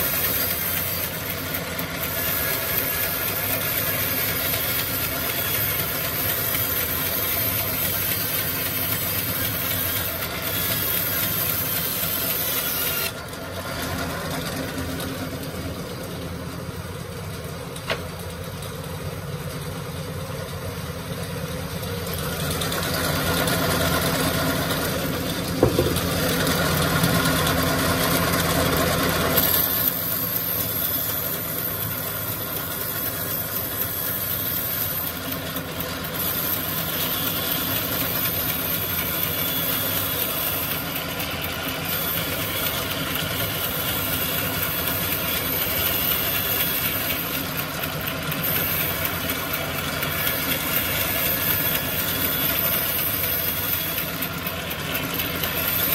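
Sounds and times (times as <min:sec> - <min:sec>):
sawmill motor running: 0:00.0 - 0:55.9.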